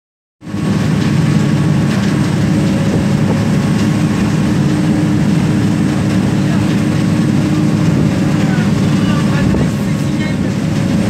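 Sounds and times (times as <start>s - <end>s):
boat engine droning: 0.4s - 11.0s.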